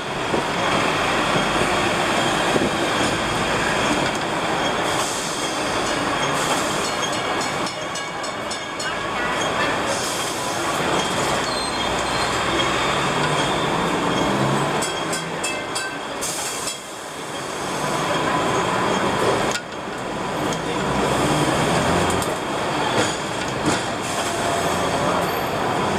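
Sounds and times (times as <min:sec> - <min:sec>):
tram wheels rumbling on track: 0:00.0 - 0:25.9.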